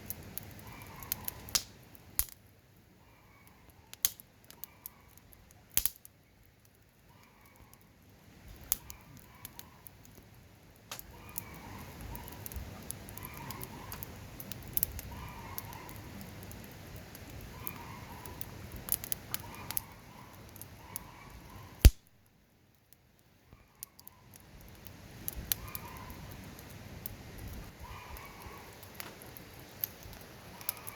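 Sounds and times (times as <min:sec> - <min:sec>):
campfire crackling and popping: 0:00.0 - 0:02.7, 0:03.4 - 0:30.9.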